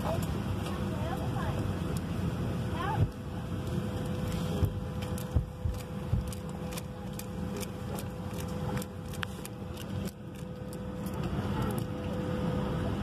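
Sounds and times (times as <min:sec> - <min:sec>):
airliner cabin rumble and hum: 0:00.0 - 0:13.0
steady whine: 0:00.0 - 0:13.0.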